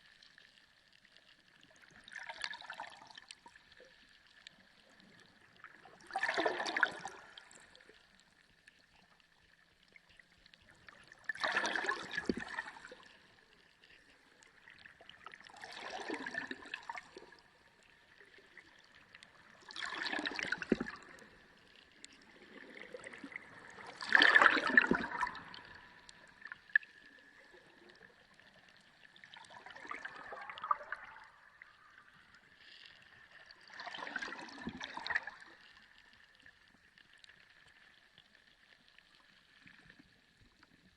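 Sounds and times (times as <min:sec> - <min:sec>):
underwater gurgling bubbles: 0:00.0 - 0:40.9.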